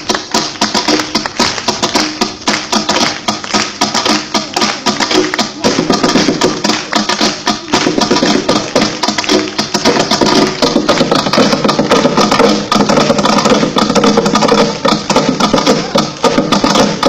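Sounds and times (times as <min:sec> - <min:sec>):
fast tapping percussion: 0:00.0 - 0:17.0.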